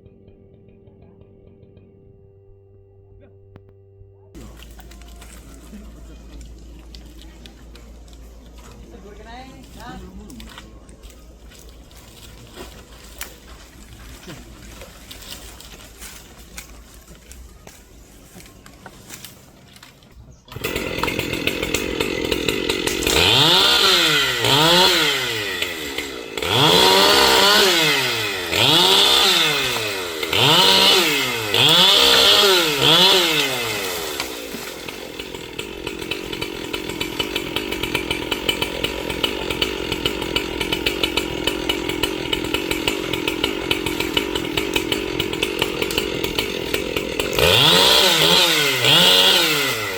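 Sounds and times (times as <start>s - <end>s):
chainsaw revving and idling: 4.4s - 49.9s.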